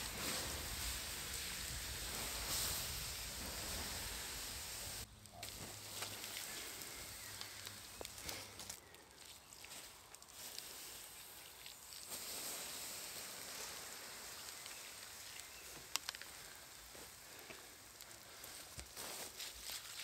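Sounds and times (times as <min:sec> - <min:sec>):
water hissing on hot embers: 0:00.0 - 0:20.0.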